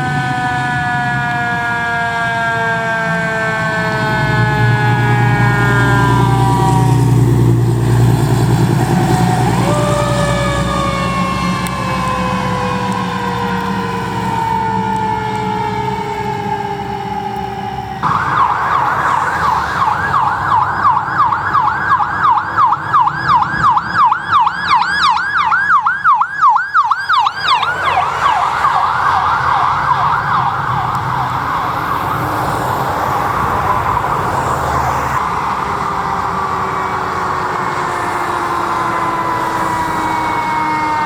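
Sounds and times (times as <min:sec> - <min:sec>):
low vehicle rumble: 0:00.0 - 0:41.0
electronic siren yelping: 0:02.4 - 0:07.8, 0:08.7 - 0:41.0.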